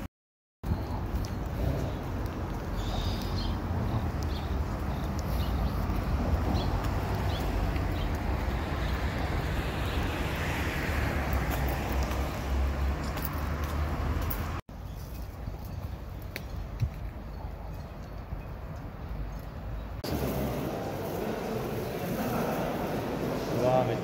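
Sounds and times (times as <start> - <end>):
road traffic rumble: 0.6 - 24.0.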